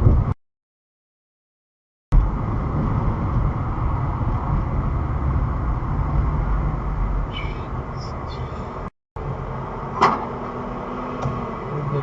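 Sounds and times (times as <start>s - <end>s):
vehicle driving low rumble: 0.0s - 0.4s, 2.1s - 12.0s.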